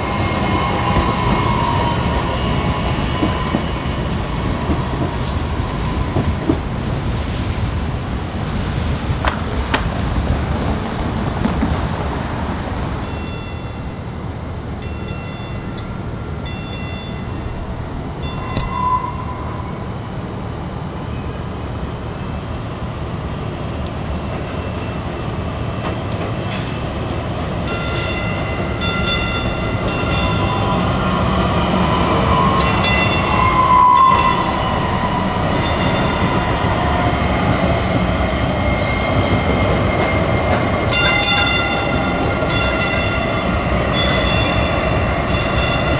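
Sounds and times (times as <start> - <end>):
light rail train rumbling: 0.0 - 45.9.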